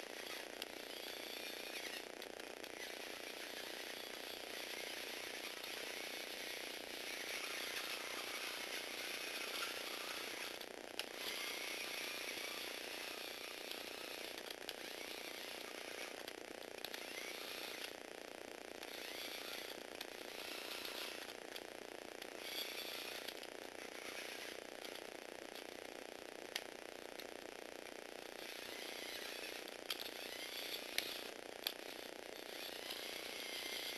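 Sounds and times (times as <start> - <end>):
toy robot motor whirring: 0.0 - 18.0, 18.8 - 21.6, 22.3 - 25.7, 28.3 - 33.9.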